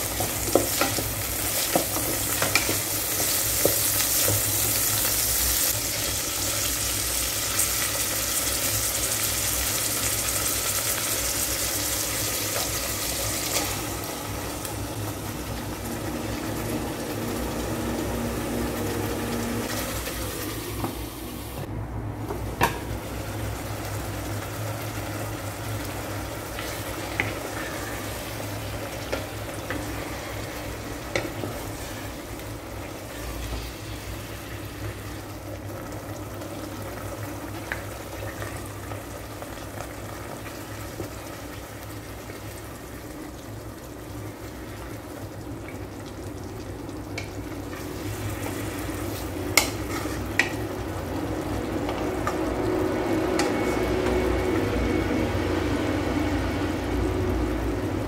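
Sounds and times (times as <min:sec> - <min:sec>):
food sizzling in a pot: 0:00.0 - 0:21.7, 0:22.6 - 0:58.0.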